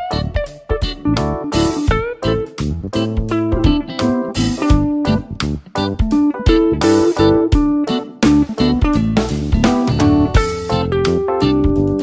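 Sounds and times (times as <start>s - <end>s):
plucked string music over a beat: 0.0s - 12.0s.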